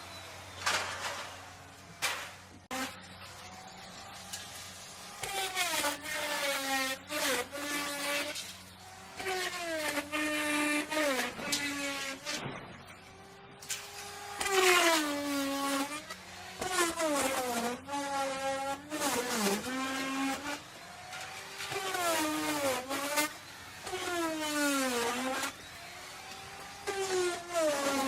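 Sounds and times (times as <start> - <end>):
wood router whine: 0.0 - 28.0.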